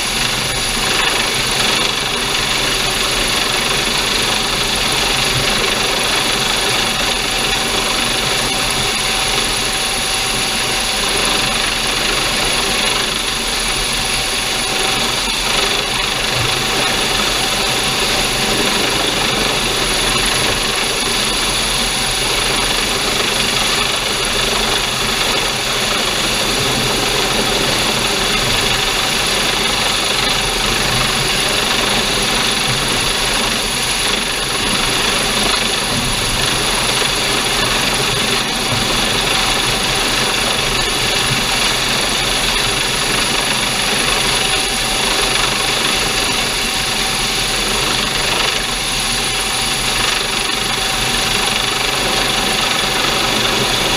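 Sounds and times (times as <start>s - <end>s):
helicopter turbine and rotor noise: 0.0s - 53.9s.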